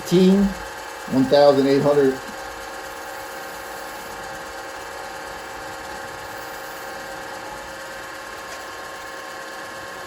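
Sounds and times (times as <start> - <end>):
lathe motor whine: 0.0 - 10.0.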